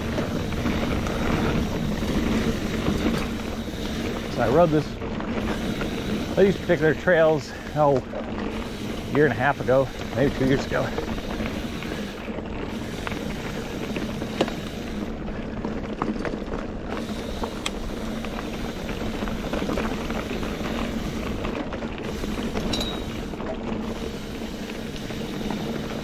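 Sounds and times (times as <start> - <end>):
bike clicks and rattles: 0.0 - 26.0.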